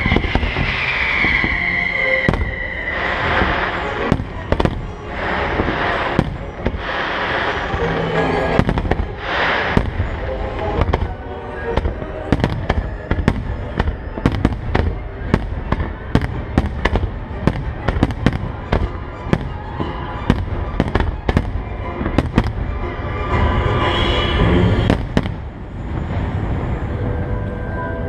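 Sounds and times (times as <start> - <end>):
fireworks bursting with sharp bangs: 0.0 - 23.0, 23.8 - 26.2
rushing crackling fireworks: 0.0 - 26.9
low rumble: 0.0 - 28.0.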